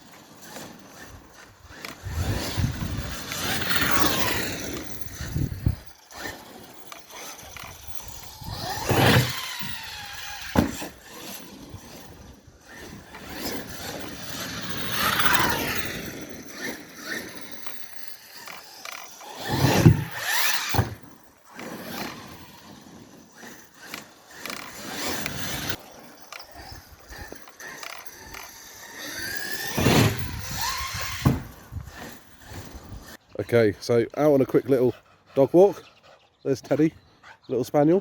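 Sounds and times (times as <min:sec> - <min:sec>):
rc car motor whining: 0:00.0 - 0:35.2.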